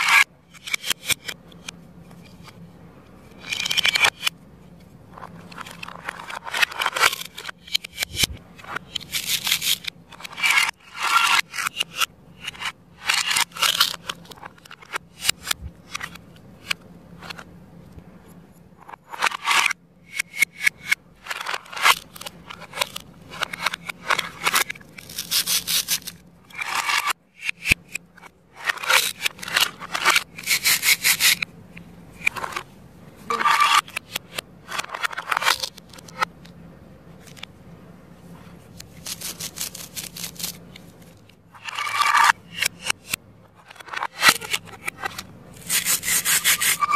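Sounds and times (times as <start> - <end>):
plastic pieces rubbing and clicking: 0.0 - 2.6, 3.3 - 4.4, 5.1 - 17.5, 18.3 - 31.5, 32.1 - 36.3, 38.7 - 46.9.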